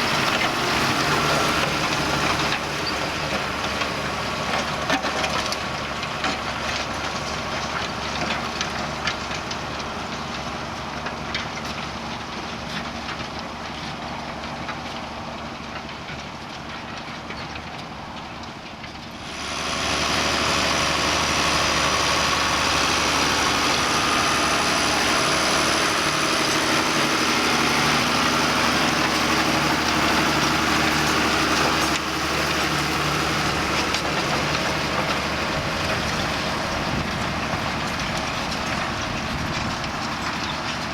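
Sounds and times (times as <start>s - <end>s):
high engine whine: 0.0s - 40.9s
tractor diesel engine under load: 0.0s - 40.9s.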